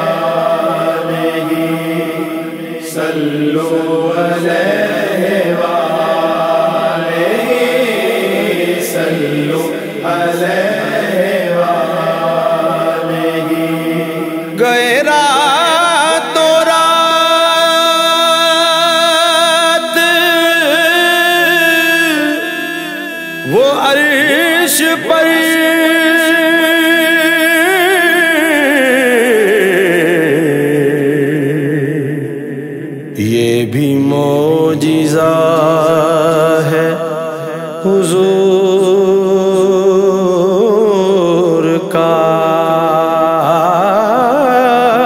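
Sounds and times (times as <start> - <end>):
wordless devotional chanting: 0.0 - 45.0.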